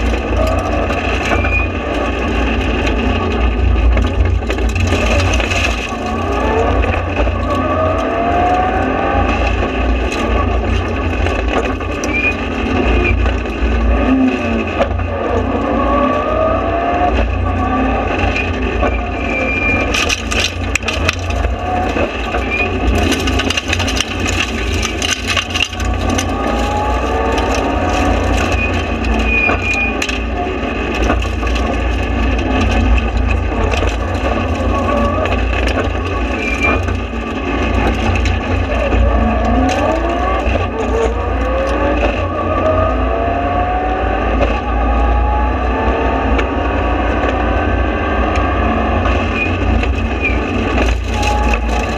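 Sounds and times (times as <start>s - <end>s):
sharp clicks and knocks: 0.0s - 16.3s, 17.1s - 42.8s, 48.3s - 51.9s
car engine revving through gears: 0.0s - 51.9s.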